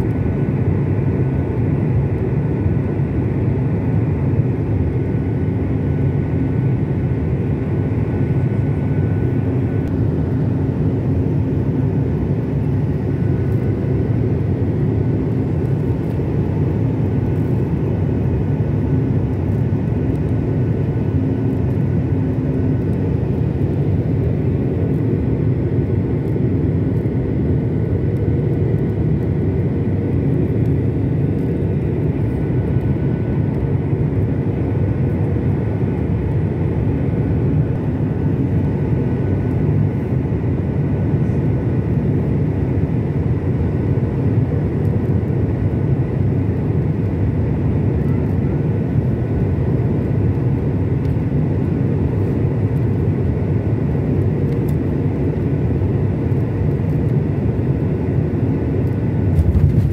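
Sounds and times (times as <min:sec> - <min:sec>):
high engine whine: 0:00.0 - 0:59.9
jet engine and airflow rumble: 0:00.0 - 0:59.9.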